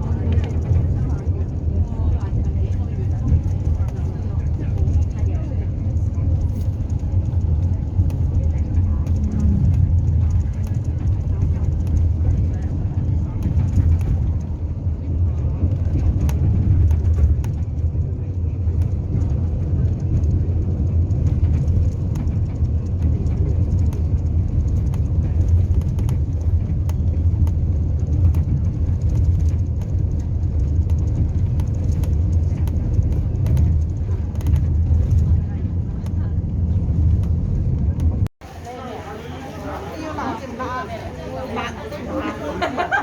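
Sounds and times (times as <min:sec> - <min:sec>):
vehicle engine rumble: 0:00.0 - 0:39.1.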